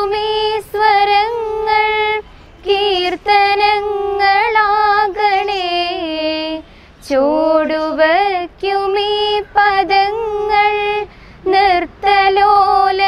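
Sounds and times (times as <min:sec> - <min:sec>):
girls singing a prayer song: 0:00.0 - 0:13.0.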